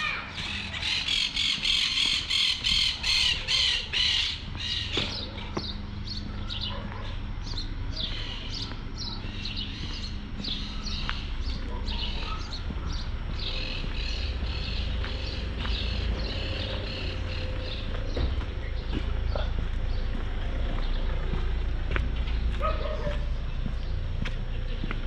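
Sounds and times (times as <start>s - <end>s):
harsh repeated bird calls: 0.0s - 21.3s
steady low rumble: 0.3s - 25.0s.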